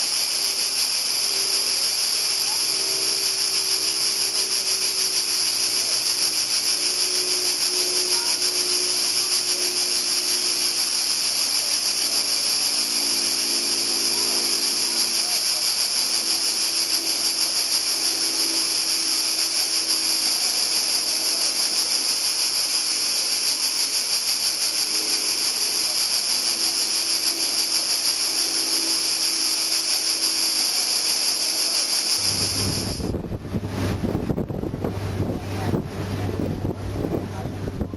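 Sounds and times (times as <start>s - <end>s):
shrill fluttering hiss: 0.0s - 37.9s.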